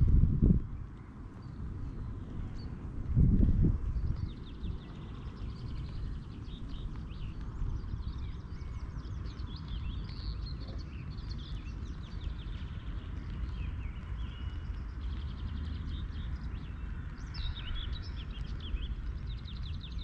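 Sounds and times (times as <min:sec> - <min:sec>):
steady low rumble: 0:00.0 - 0:20.0
small birds chirping: 0:00.4 - 0:20.0.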